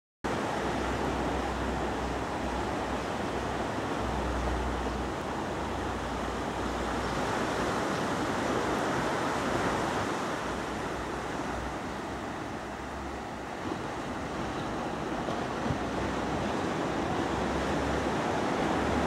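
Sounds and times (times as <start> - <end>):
surf washing over rocks: 0.3 - 19.0.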